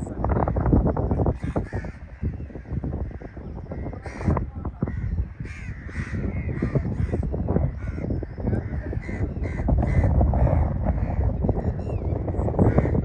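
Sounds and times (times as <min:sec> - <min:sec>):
birds calling: 0:00.0 - 0:13.0
low rumble: 0:00.0 - 0:13.0.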